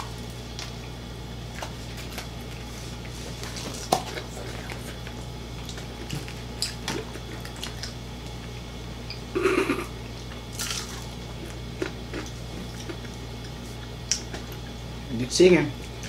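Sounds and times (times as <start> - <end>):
wet chewing: 0.5 - 9.2, 10.0 - 14.8.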